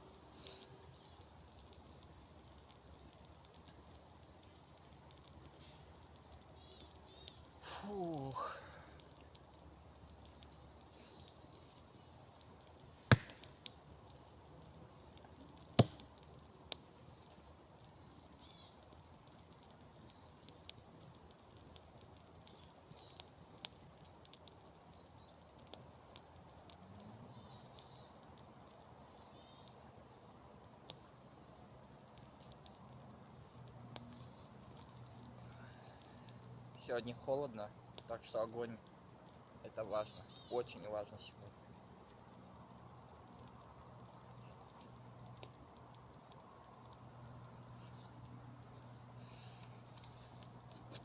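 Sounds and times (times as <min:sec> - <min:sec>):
faint small birds chirping: 0:00.0 - 0:51.0
faint ticks: 0:00.0 - 0:51.0
firewood cracking: 0:00.0 - 0:51.0.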